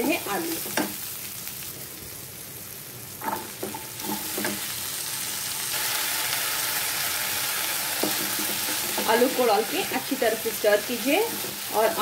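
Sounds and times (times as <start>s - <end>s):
potato sizzling in oil: 0.0s - 12.0s.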